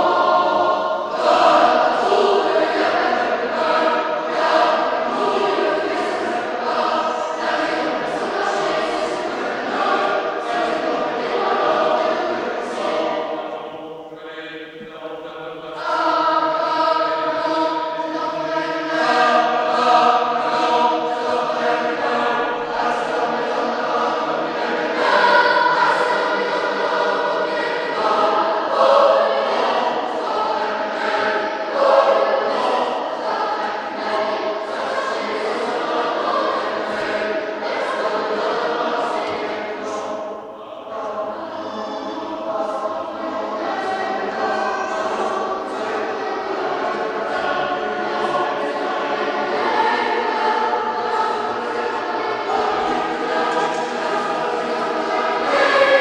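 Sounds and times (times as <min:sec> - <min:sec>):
boys' choir singing: 0:00.0 - 0:56.0.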